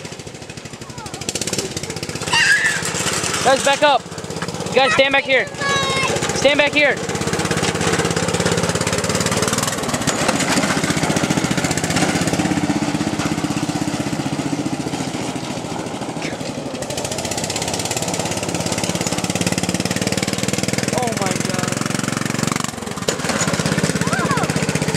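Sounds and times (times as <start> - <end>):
lawn tractor engine running: 0.0 - 24.9
tires on gravel: 0.0 - 24.9.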